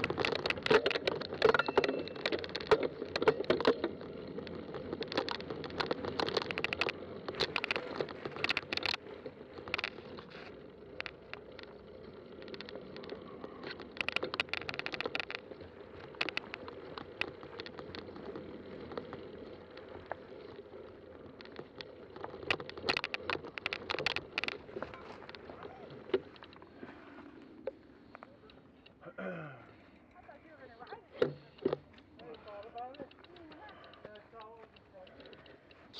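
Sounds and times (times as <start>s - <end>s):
bike tyres rolling on trail: 0.0s - 29.0s, 29.7s - 35.9s
clicks crackles and rattles: 0.0s - 29.0s, 29.8s - 35.9s.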